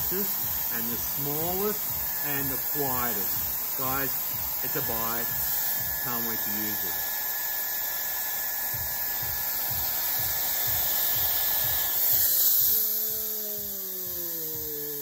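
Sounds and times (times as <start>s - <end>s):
hair dryer whine: 0.0s - 15.0s
motor winding down: 0.0s - 15.0s.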